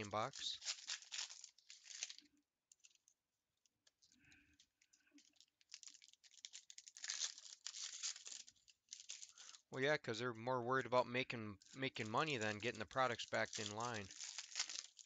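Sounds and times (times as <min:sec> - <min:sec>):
wrapper crinkling and tearing: 0:00.0 - 0:09.7, 0:11.6 - 0:15.0.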